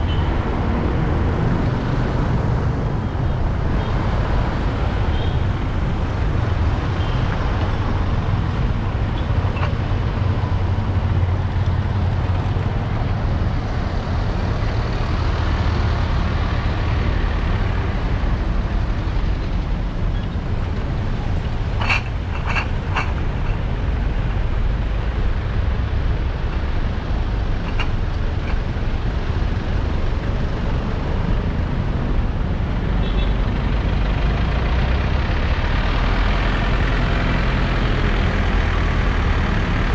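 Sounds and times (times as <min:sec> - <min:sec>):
traffic rumble and road noise: 0:00.0 - 0:39.9.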